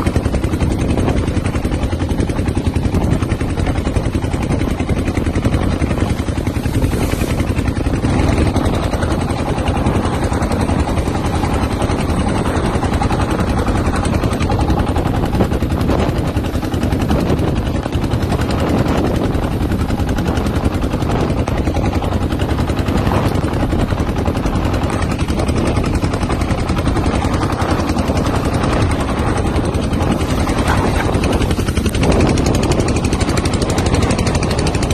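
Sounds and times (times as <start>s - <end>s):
boat engine rumble: 0.0s - 34.9s
wind buffeting microphone: 0.0s - 34.9s.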